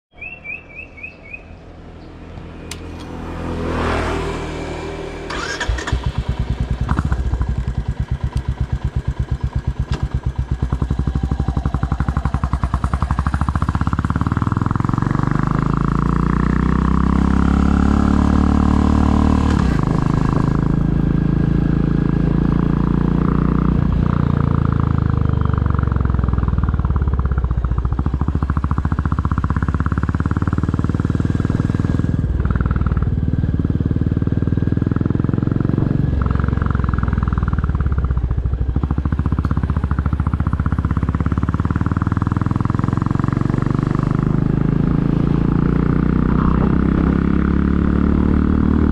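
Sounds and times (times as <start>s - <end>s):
motorcycle engine starting and idling: 1.9s - 48.9s
motorcycle revving through gears: 1.9s - 48.9s.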